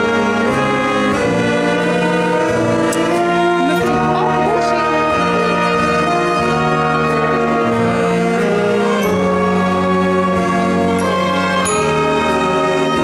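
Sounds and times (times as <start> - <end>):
orchestra playing sustained chords: 0.0 - 13.0.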